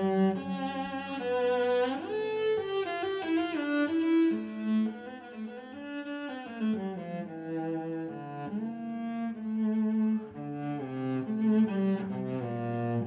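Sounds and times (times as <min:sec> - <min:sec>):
cello playing slow melody: 0:00.0 - 0:13.0.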